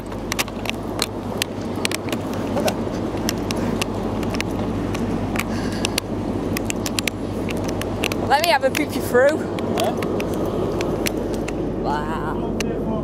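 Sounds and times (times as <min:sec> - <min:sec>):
sharp clicks and knocks: 0:00.0 - 0:11.6
train engine hum: 0:00.0 - 0:13.0.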